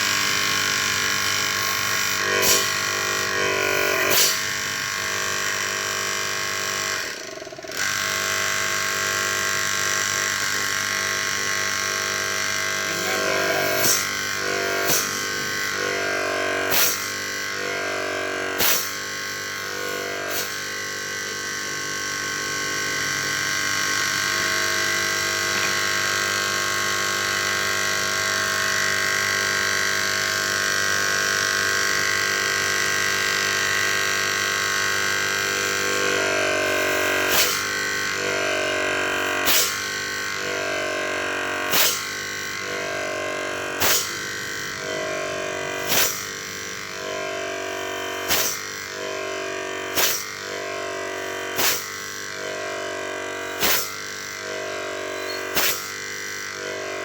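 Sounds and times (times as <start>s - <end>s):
electric motor humming: 0.0s - 57.0s.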